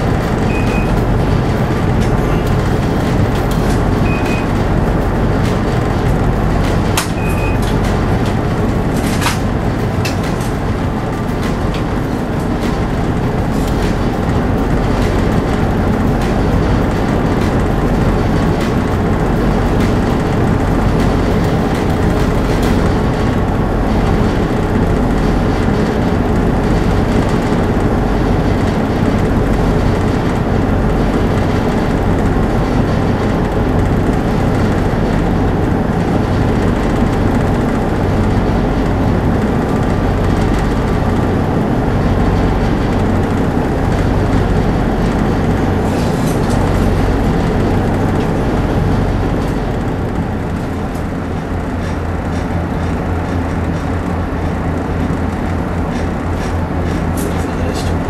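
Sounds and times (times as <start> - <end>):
boat diesel engines droning: 0.0 - 58.0.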